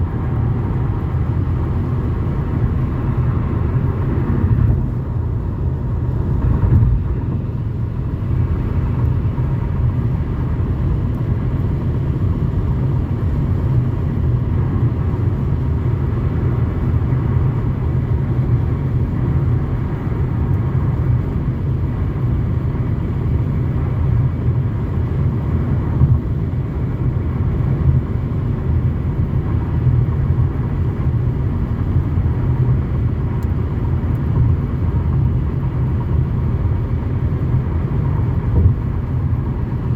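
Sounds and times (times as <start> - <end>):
car road and drivetrain rumble: 0.0 - 39.9.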